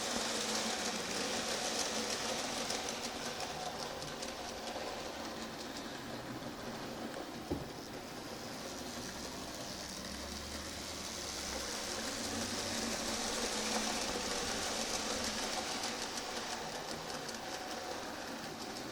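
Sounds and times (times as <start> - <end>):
steam train rolling past: 0.0 - 18.9.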